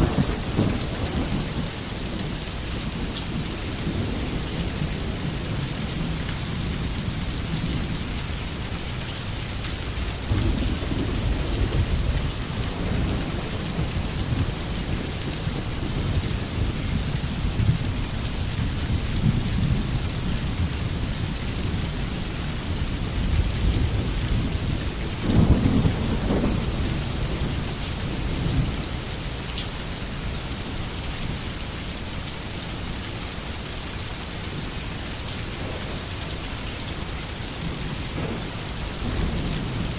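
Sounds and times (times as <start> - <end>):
rumbles of thunder: 0.0 - 8.8, 9.8 - 30.2, 37.0 - 39.9
steady rain falling: 0.0 - 39.9.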